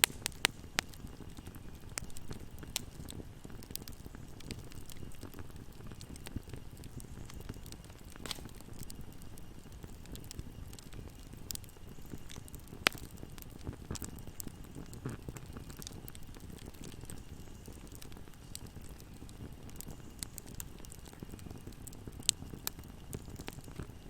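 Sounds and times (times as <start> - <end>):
fire crackling in fireplace: 0.0 - 24.0.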